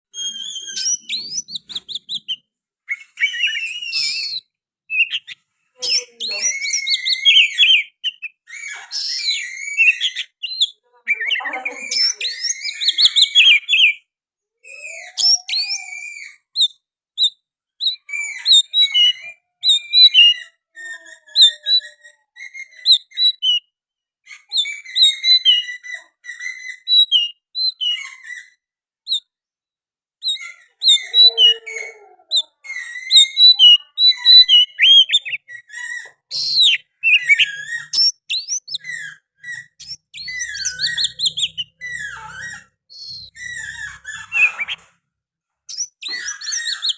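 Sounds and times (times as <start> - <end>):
bird singing whistles and chirps: 0.1 - 14.0, 14.6 - 23.7, 24.3 - 29.3, 30.2 - 44.9, 45.7 - 46.9.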